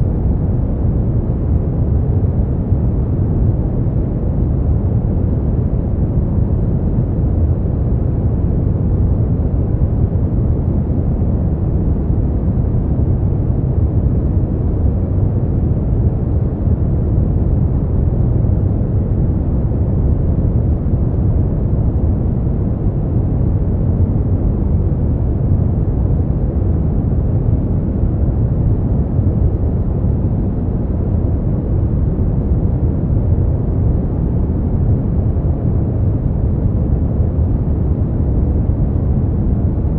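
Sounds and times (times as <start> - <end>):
deep low steady noise: 0.0 - 39.9.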